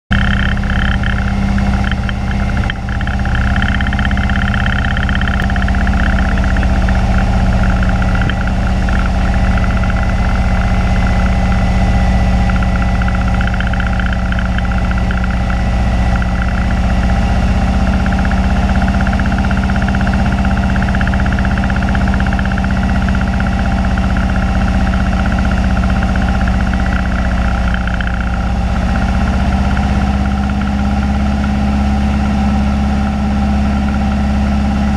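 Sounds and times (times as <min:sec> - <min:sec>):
airplane engine and propeller drone: 0:00.1 - 0:34.9.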